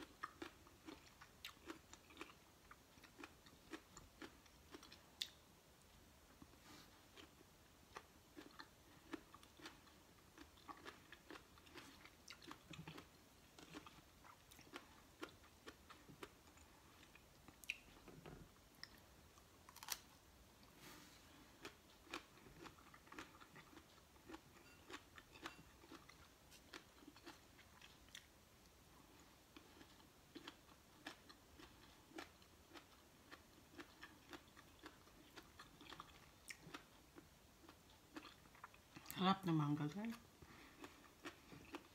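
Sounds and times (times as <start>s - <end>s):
person chewing crunchy vegetables: 0.0s - 5.4s, 6.4s - 28.4s, 29.0s - 39.2s, 40.1s - 41.9s.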